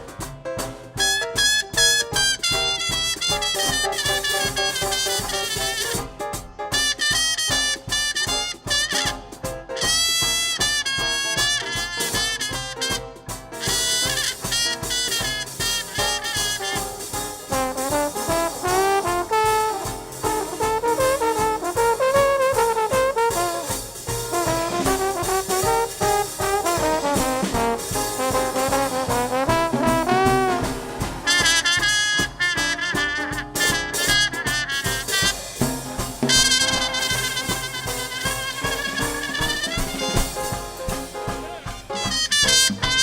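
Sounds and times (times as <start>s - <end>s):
jazz band playing: 0.0s - 43.0s
high horn line: 1.0s - 6.1s, 6.8s - 30.7s, 36.2s - 43.0s.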